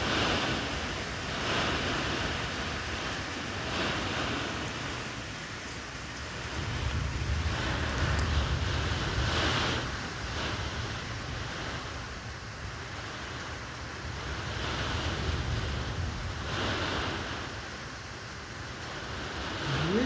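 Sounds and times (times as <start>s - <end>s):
wind gusts: 0.0s - 20.0s
wind rumble on microphone: 0.0s - 20.0s.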